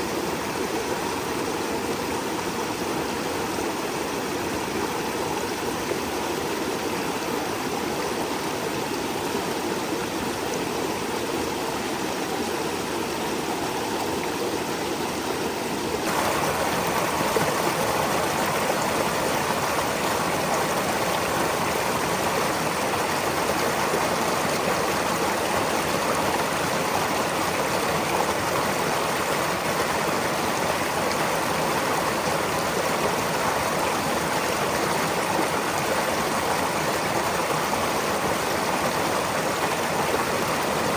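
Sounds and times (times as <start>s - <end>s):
brook flowing over stones: 0.0s - 40.9s.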